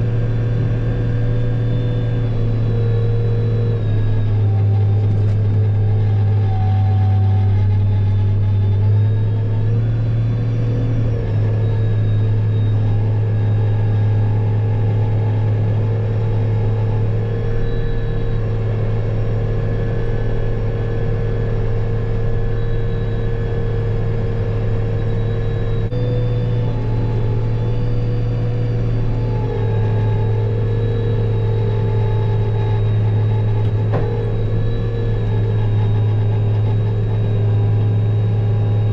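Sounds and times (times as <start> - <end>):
faint whining tones: 0.0 - 38.9
heavy diesel engine droning: 0.0 - 38.9.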